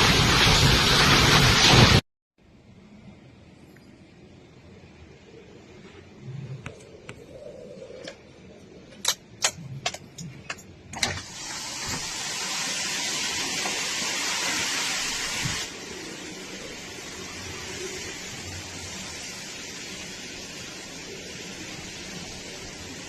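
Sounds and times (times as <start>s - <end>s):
wind-driven rain rushing: 0.0s - 2.0s, 4.4s - 23.0s.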